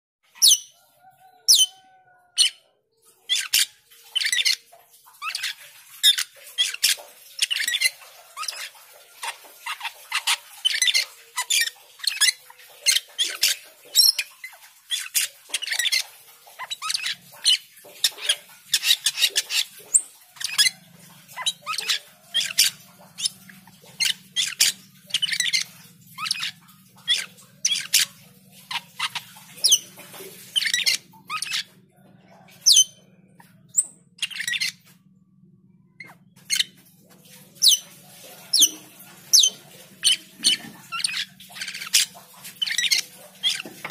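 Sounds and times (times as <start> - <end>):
starling singing: 0.3 - 34.9, 35.8 - 43.9.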